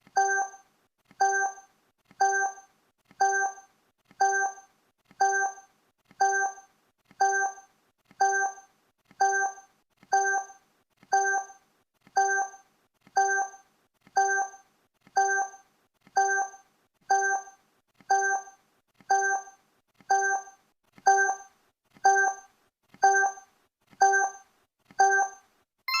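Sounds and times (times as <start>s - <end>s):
timer ticking: 0.1s - 12.6s, 13.2s - 13.6s, 14.2s - 14.6s, 15.2s - 15.6s, 16.2s - 26.0s.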